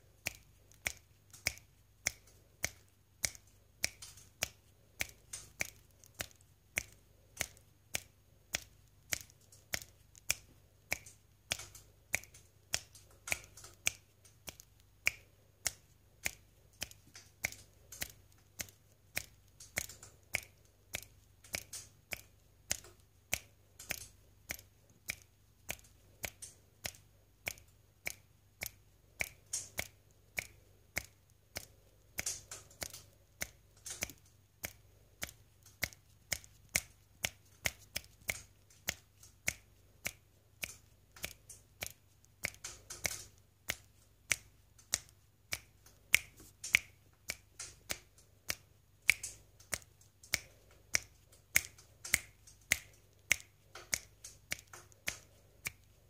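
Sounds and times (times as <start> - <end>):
finger snapping: 0.2 - 56.0.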